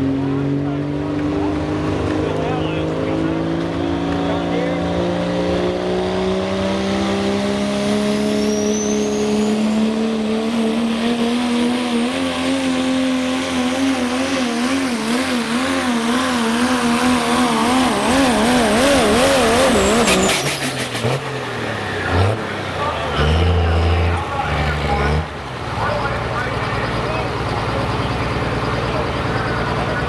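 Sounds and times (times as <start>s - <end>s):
truck engine at full throttle: 0.0s - 30.0s.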